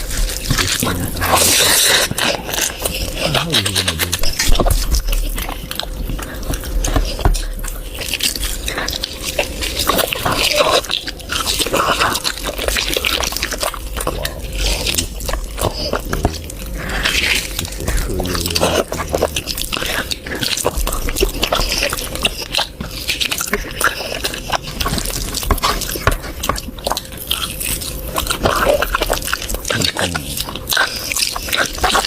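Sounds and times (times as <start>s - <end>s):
wet chewing and smacking: 0.0s - 32.0s.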